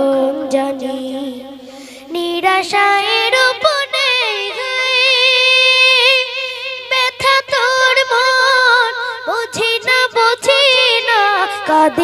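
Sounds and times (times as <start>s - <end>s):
boy singing into microphone: 0.0s - 12.0s.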